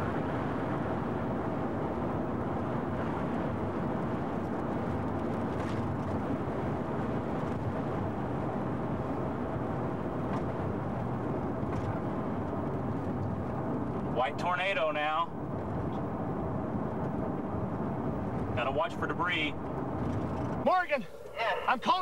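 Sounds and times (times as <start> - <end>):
wind and road noise in car: 0.0 - 22.0.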